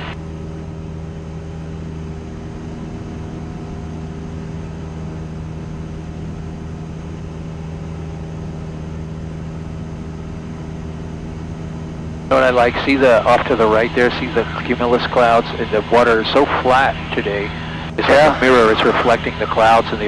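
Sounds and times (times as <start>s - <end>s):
light aircraft engine drone: 0.0s - 20.0s.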